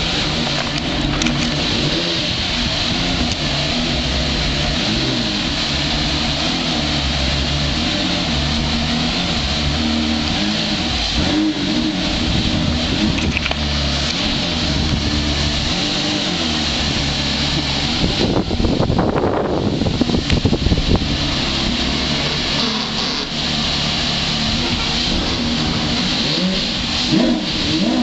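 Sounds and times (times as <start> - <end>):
car engine running loudly: 0.0 - 28.0.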